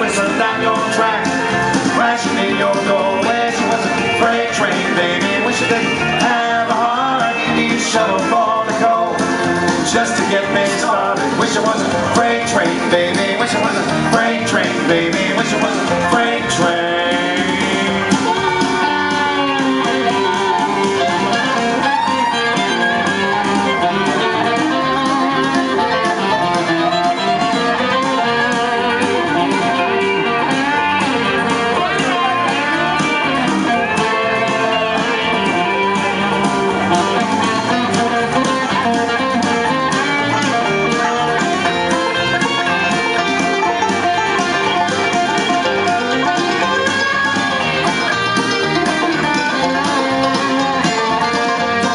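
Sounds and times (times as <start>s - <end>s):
country band backing: 0.0s - 51.9s
electric guitar lead lines: 0.0s - 51.9s.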